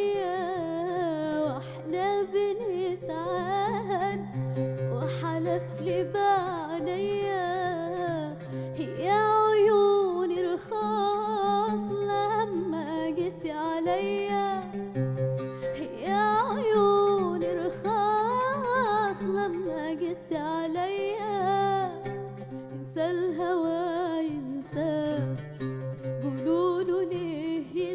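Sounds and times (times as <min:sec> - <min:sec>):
oud plucked: 0:00.0 - 0:27.9
woman singing: 0:00.0 - 0:27.9.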